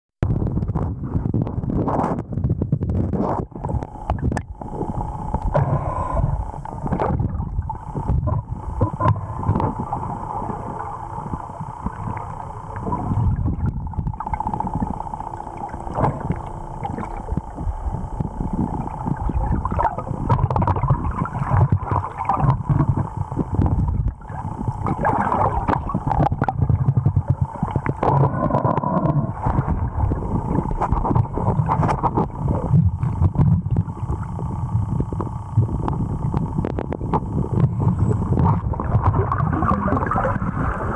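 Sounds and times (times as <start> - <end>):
water rushing and gurgling underwater: 0.2 - 40.9.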